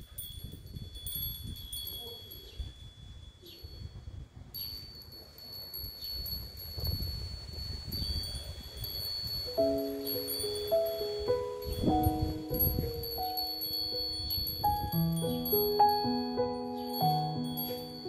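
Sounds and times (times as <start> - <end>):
small metal chimes ringing: 0.0 - 18.0.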